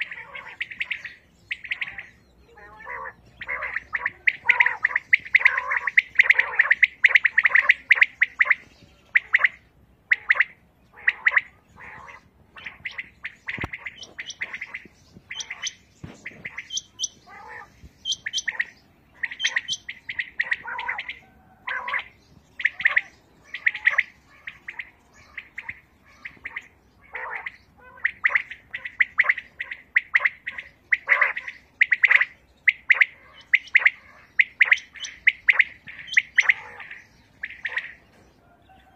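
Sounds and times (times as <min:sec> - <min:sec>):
quails calling: 0:00.0 - 0:38.9.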